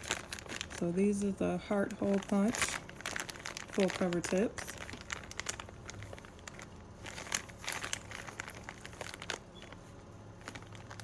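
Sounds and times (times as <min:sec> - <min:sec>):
faint steady hum: 0:00.0 - 0:11.0
plastic packaging crinkling: 0:00.0 - 0:11.0.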